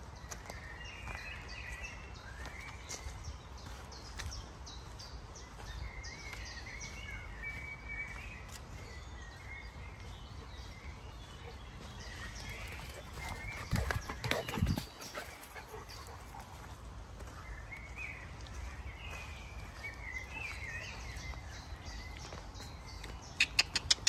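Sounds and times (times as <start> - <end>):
birds chirping and warbling: 0.0 - 24.0.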